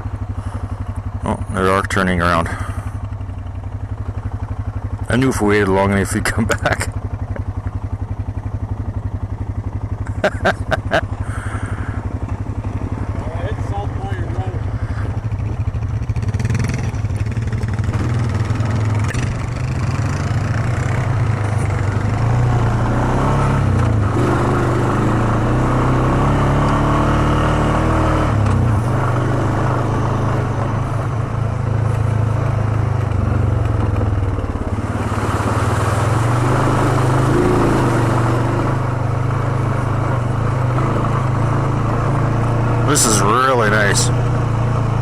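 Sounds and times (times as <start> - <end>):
atv engine droning: 0.0 - 45.0.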